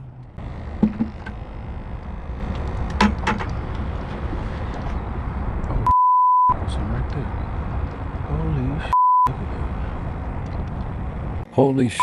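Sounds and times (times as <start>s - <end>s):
low outdoor rumble: 0.0s - 5.9s, 6.5s - 12.0s.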